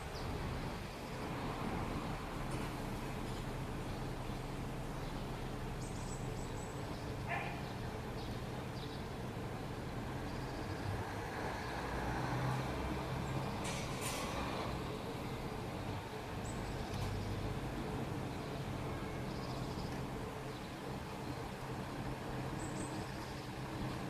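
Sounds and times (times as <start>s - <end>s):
low hum of distant traffic: 0.0s - 24.0s.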